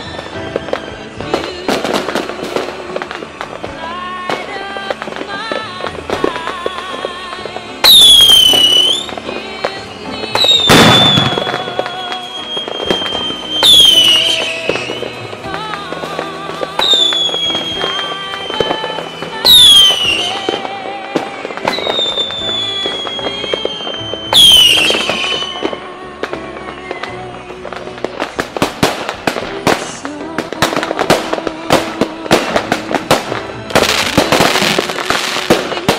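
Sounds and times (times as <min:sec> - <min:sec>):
background music: 0:00.0 - 0:35.9
firework bang: 0:00.0 - 0:35.9
whistling firework: 0:00.0 - 0:35.9.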